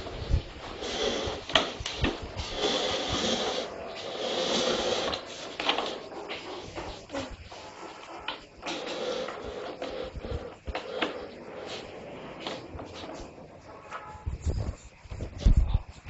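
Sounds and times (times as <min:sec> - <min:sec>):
steady rasping noise: 0:00.0 - 0:16.0.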